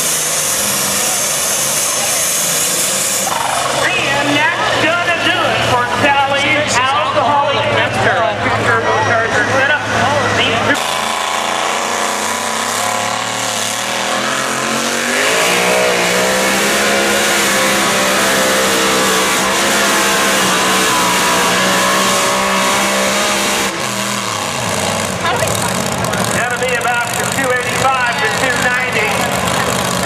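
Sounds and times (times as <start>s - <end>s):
engine revving under load: 0.0s - 30.0s.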